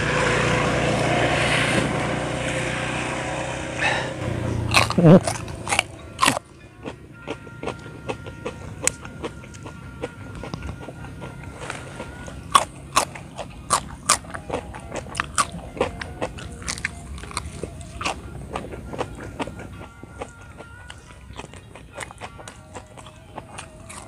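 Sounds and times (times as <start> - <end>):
crunching and chewing stalk: 3.1 - 24.0.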